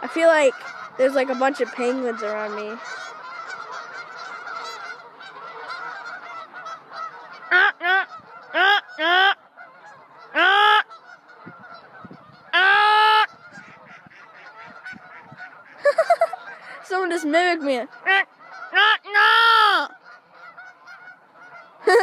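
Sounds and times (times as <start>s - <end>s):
flock of waterfowl calling: 0.0s - 22.0s.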